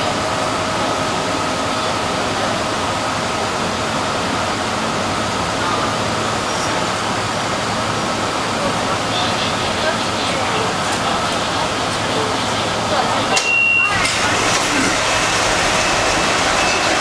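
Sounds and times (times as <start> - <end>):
train wheels roaring on rail: 0.0 - 17.0.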